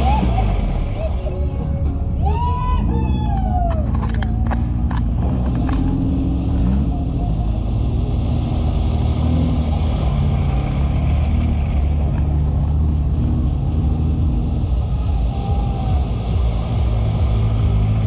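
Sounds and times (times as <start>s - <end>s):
off-road vehicle engines under load: 0.0s - 18.0s.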